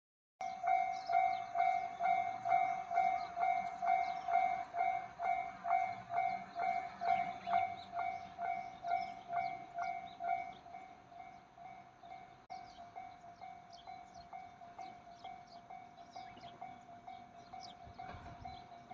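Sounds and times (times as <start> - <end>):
level-crossing alarm clanging: 0.4 - 18.9.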